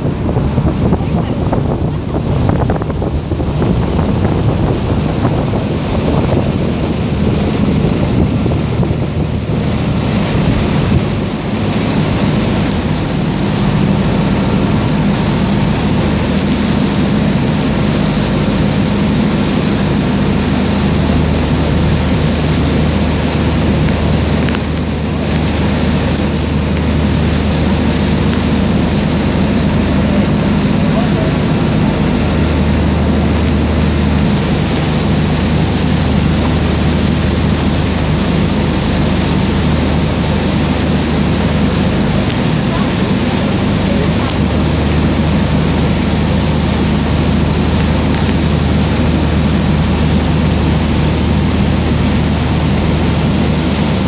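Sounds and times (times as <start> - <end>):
boat engine hum: 0.0 - 54.0
water churning: 0.0 - 54.0
wind buffeting microphone: 0.0 - 54.0.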